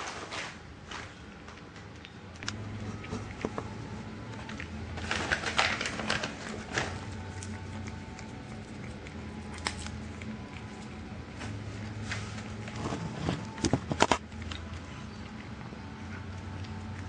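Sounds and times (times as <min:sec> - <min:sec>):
low steady hum: 0:00.0 - 0:17.0
cat crunching treats: 0:00.9 - 0:17.0.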